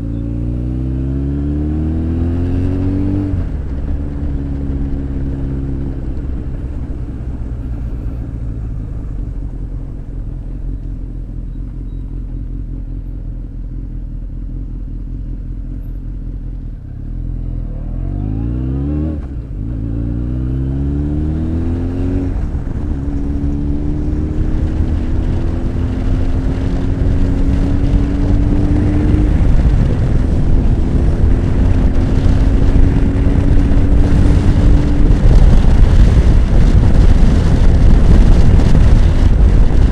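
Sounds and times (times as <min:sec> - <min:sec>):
wind noise: 0:00.0 - 0:12.1, 0:17.3 - 0:39.9
motorcycle engine revving: 0:00.0 - 0:39.9.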